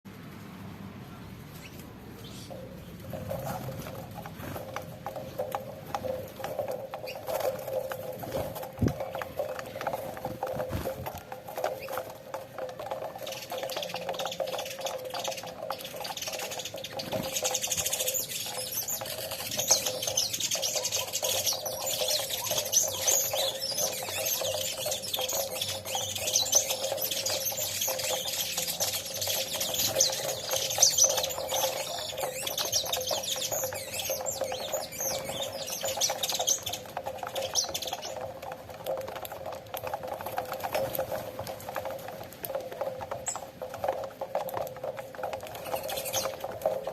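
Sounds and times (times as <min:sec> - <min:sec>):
finches chirping: 0:01.6 - 0:39.0, 0:40.1 - 0:46.9
birds pecking clicks and taps: 0:01.7 - 0:46.9.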